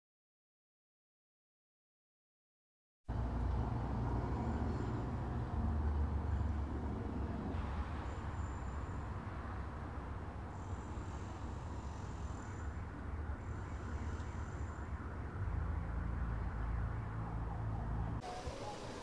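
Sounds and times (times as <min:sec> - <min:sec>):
road traffic rumble: 0:03.1 - 0:19.0
vehicle passing close: 0:03.1 - 0:19.0
wind: 0:03.1 - 0:19.0.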